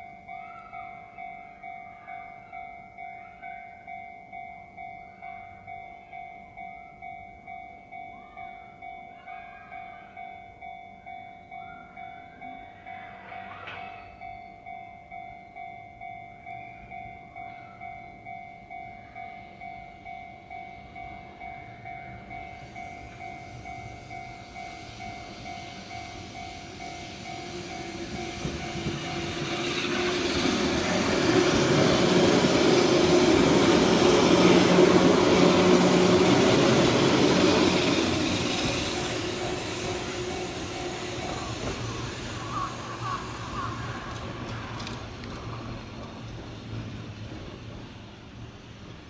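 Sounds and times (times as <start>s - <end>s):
crossing warning bell ringing: 0.0s - 47.5s
electric train passing: 0.0s - 49.0s.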